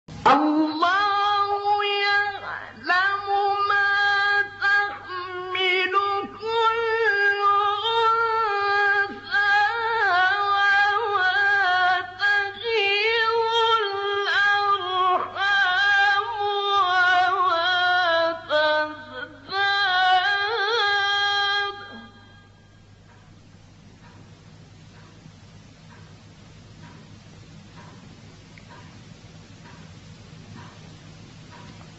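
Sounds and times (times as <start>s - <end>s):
steady low hum: 0.1s - 31.9s.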